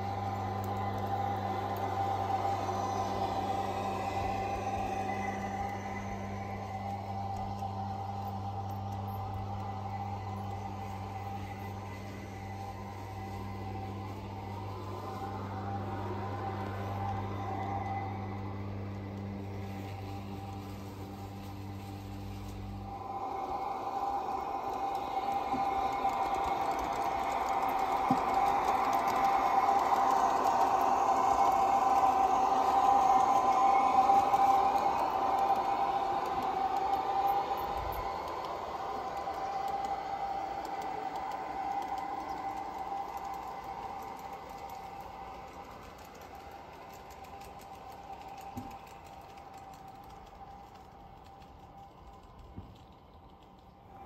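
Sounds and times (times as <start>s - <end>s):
model train motor whine: 0.0s - 54.0s
wheels rumbling on rails: 0.0s - 54.0s.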